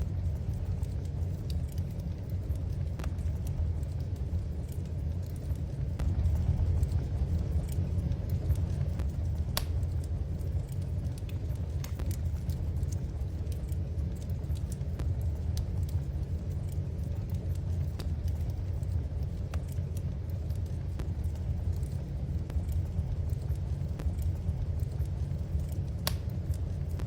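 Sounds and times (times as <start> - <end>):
fire rumbling: 0.0 - 27.0
wood fire crackling and popping: 0.0 - 27.0.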